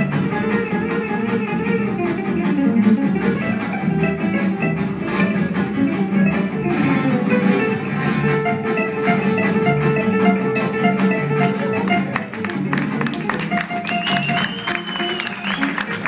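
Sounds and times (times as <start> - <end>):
acoustic guitars strumming: 0.0 - 16.0
double bass: 0.0 - 16.0
violin: 0.0 - 16.0.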